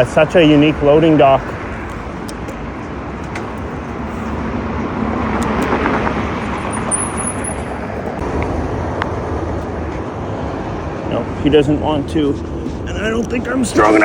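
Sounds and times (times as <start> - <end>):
car passing: 0.0 - 14.0
steady street noise: 0.0 - 14.0.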